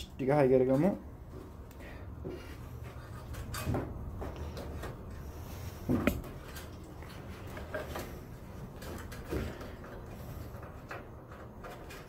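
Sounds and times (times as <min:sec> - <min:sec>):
cables rustling: 0:00.7 - 0:12.0.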